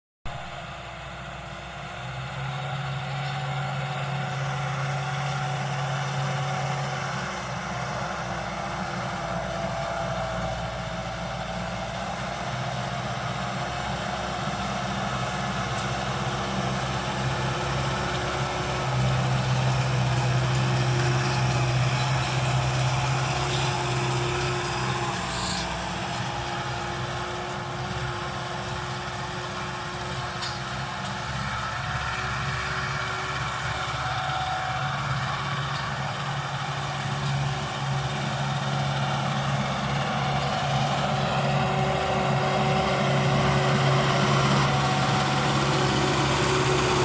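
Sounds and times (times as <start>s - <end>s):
tractor diesel engine running: 0.3s - 47.0s.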